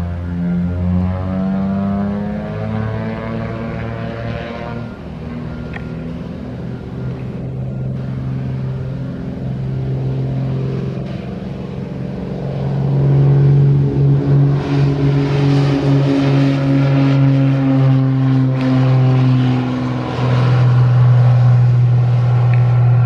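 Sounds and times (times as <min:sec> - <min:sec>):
propeller aircraft engine drone: 0:00.0 - 0:23.0.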